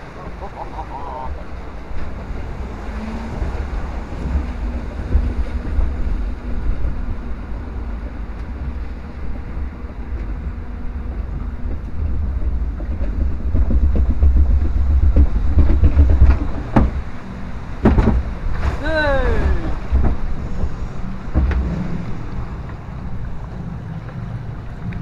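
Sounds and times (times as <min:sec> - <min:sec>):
water rushing: 0:00.0 - 0:25.0
wind rumbling on microphone: 0:00.0 - 0:25.0.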